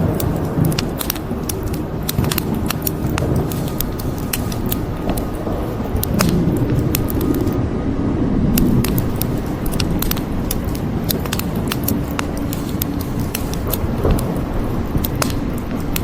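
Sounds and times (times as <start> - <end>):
wood fire crackling: 0.0 - 7.6, 8.3 - 16.0
low rumbling noise: 0.0 - 16.0.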